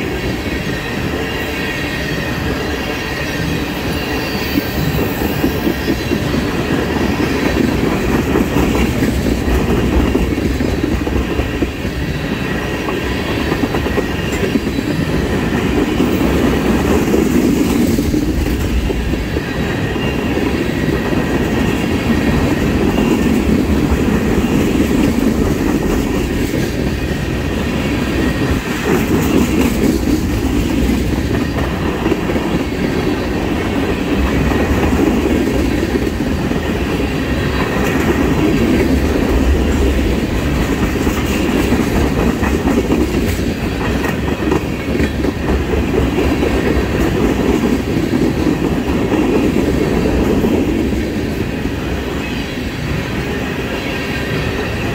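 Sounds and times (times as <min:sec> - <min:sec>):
steel wheels rumbling on rails: 0:00.0 - 0:54.9.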